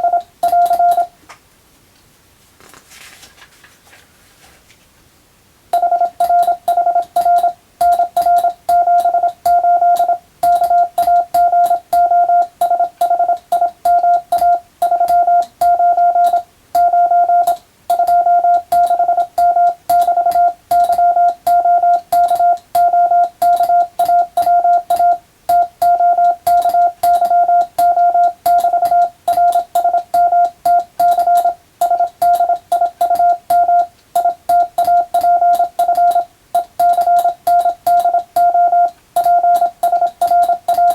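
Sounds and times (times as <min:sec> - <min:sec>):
morse code beeps: 0:00.0 - 0:01.2, 0:05.8 - 0:40.9
telegraph key clicks: 0:06.2 - 0:40.9.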